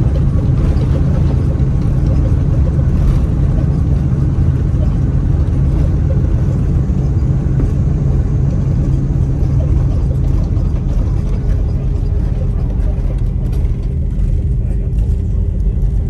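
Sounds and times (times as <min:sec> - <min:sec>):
airplane cabin low rumble: 0:00.0 - 0:16.0.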